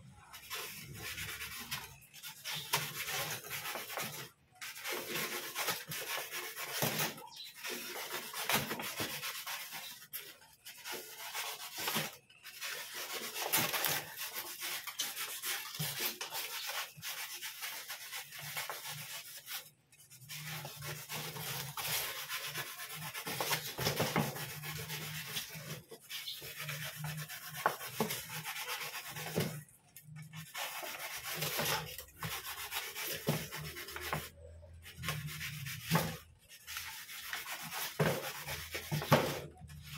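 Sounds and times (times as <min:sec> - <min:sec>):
blade cutting styrofoam: 0:00.4 - 0:29.6, 0:30.3 - 0:34.3.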